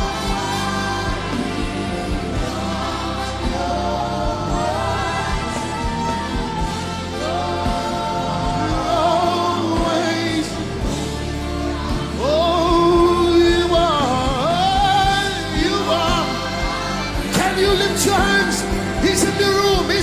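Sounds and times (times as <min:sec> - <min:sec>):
band accompaniment: 0:00.0 - 0:20.0
voices singing gospel: 0:00.0 - 0:20.0.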